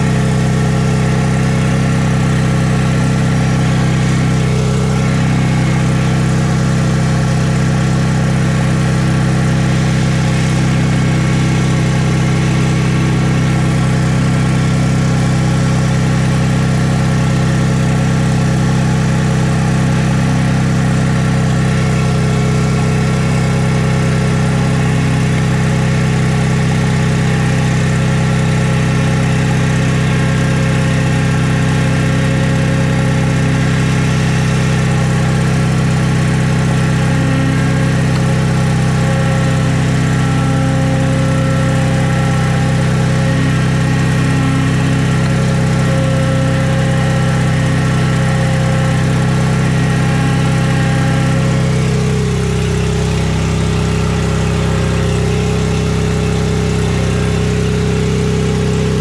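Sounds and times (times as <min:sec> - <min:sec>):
skid steer engine humming: 0:00.0 - 0:59.0.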